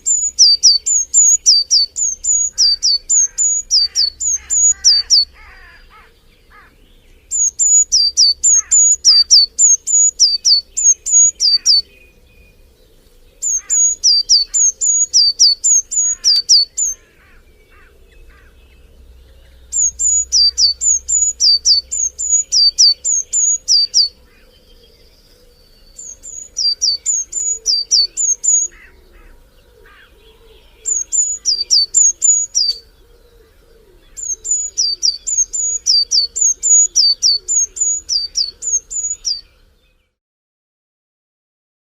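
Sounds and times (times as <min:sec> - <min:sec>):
bird singing high repeated notes: 0:00.0 - 0:12.0, 0:13.4 - 0:24.2, 0:25.1 - 0:29.0, 0:30.0 - 0:32.9, 0:34.2 - 0:39.6
faint bird chirps: 0:00.0 - 0:40.2.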